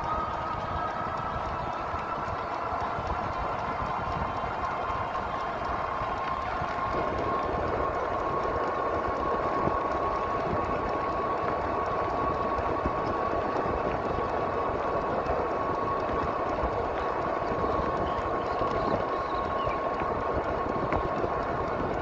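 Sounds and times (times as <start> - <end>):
tyres on asphalt: 0.0 - 22.0
wind buffeting microphone: 0.0 - 22.0.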